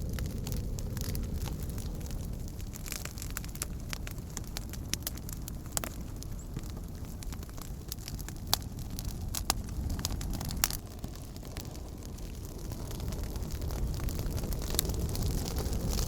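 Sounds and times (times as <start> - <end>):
campfire flames rumbling: 0.0 - 16.0
fire crackling and popping: 0.0 - 16.0.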